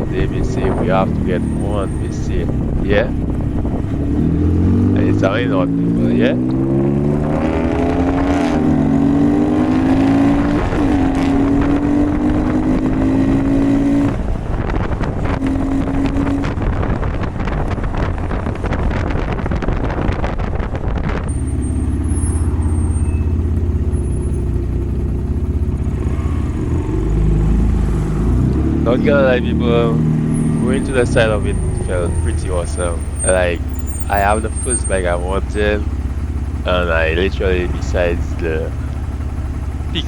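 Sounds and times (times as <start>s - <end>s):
wind buffeting microphone: 0.0s - 37.7s
motorcycle engine accelerating: 0.0s - 40.0s.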